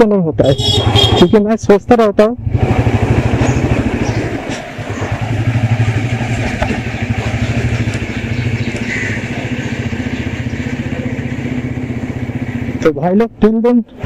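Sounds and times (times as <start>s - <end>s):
motorcycle engine running: 0.5s - 1.4s, 2.4s - 13.1s.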